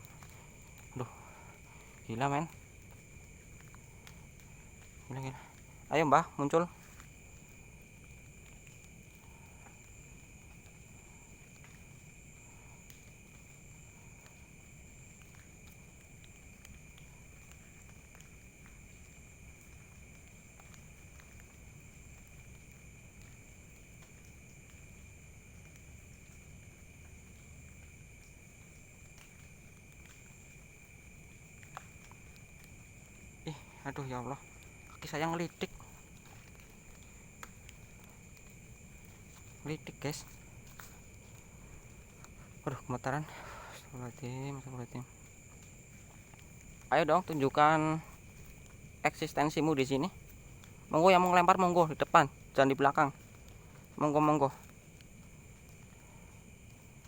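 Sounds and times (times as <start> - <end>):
crickets trilling: 0.0 - 57.0
faint ticks: 0.0 - 57.0
insects buzzing at night: 0.0 - 57.0.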